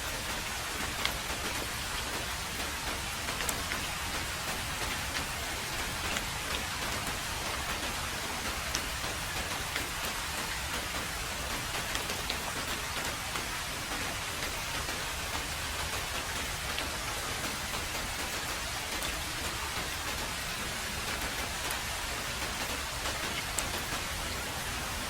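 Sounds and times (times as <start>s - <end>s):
heavy rain on a road: 0.0s - 25.0s
raindrop ticks: 0.0s - 25.0s.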